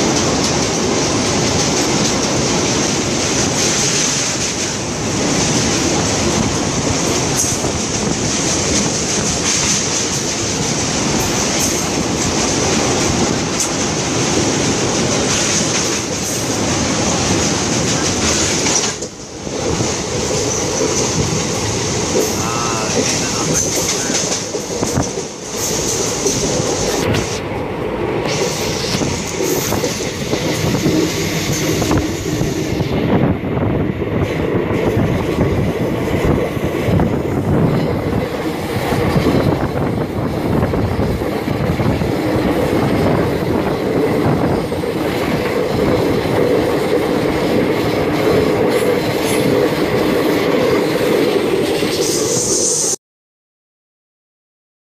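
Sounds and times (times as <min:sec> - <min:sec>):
train wheels rumbling and clacking: 0:00.0 - 0:53.0.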